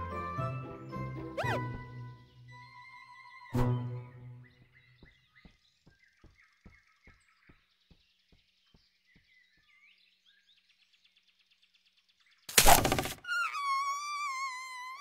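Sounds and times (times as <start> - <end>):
bird chirps: 1.4 - 15.0.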